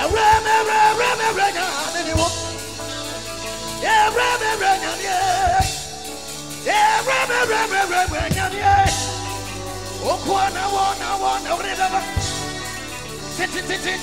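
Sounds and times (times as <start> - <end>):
live gospel band playing: 0.0 - 14.0
person singing: 0.0 - 14.0.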